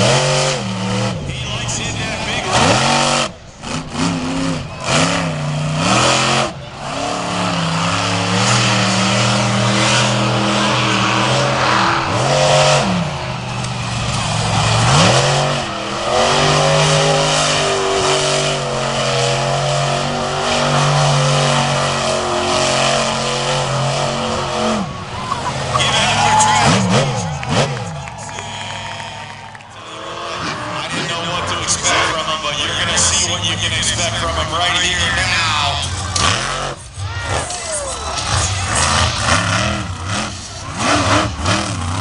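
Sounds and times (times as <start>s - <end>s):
monster truck engine revving: 0.0s - 42.0s.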